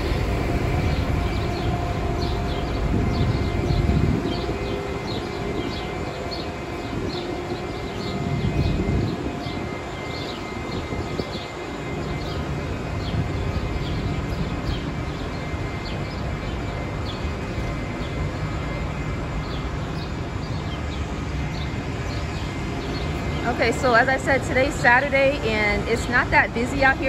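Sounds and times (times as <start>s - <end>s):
buses idling rumble: 0.0s - 27.0s.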